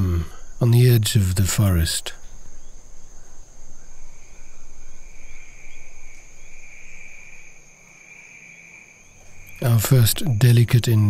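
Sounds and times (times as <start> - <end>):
insects calling high-pitched: 0.0 - 11.0.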